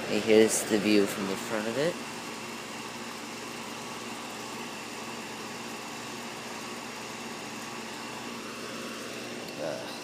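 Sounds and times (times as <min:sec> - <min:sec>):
compressor hum: 0:00.0 - 0:10.0
condenser fan whoosh: 0:00.0 - 0:10.0.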